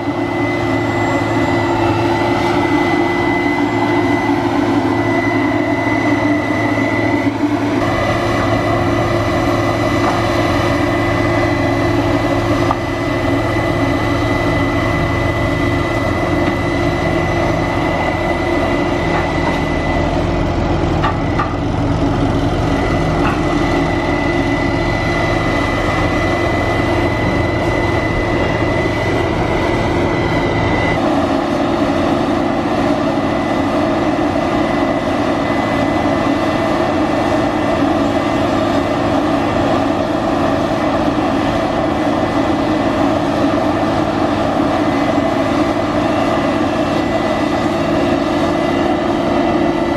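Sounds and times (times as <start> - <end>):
large vehicle engine running: 0.0 - 49.9.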